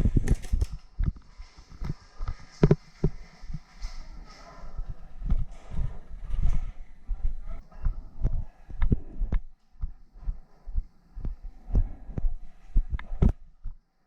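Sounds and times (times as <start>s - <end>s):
heavy footsteps with clicks: 0.0s - 13.8s.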